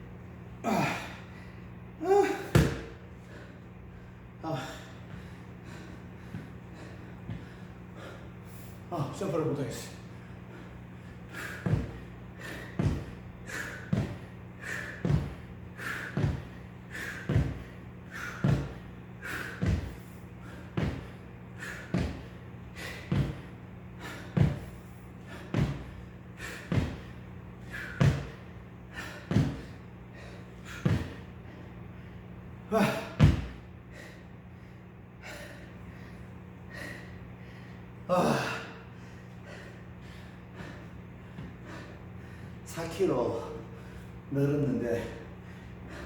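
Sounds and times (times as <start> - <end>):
steady low hum: 0.0 - 46.0
exercise thuds: 2.0 - 3.6, 4.4 - 9.1, 10.2 - 34.2, 35.2 - 43.0.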